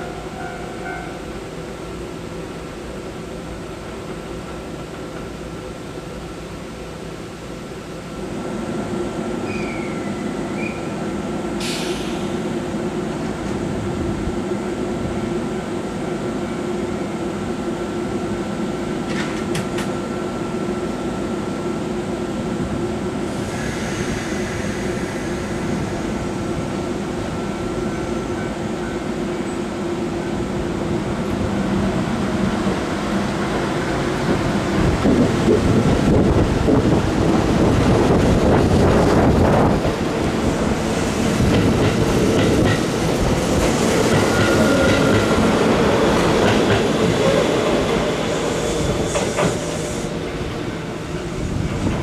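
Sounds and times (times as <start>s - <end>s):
train motors and wheels: 0.0s - 52.0s.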